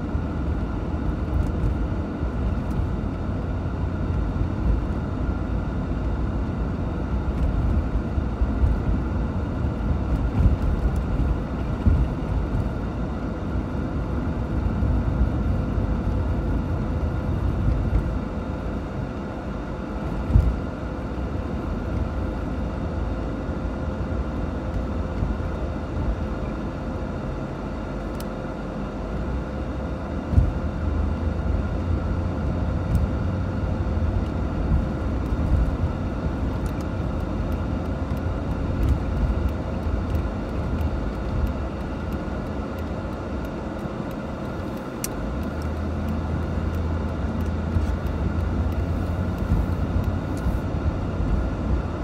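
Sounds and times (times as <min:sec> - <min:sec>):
car engine rumble: 0:00.0 - 0:52.0
tyres on road: 0:00.0 - 0:52.0.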